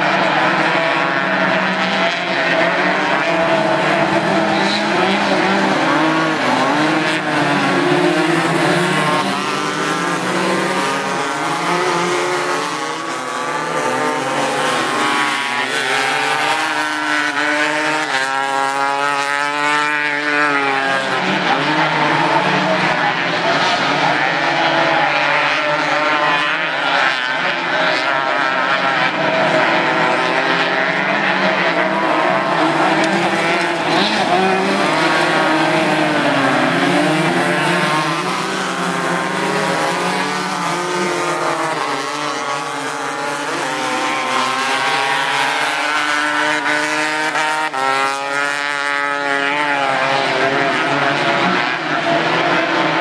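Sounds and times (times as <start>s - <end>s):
racing kart engines revving: 0.0s - 53.0s.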